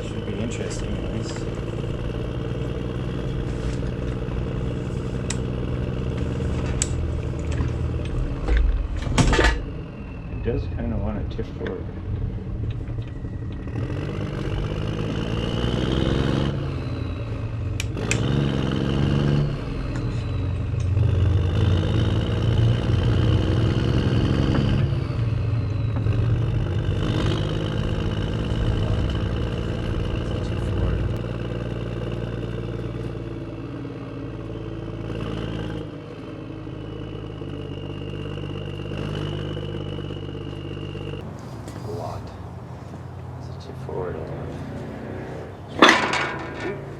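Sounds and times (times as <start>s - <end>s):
motor-driven machine droning: 0.0s - 41.3s.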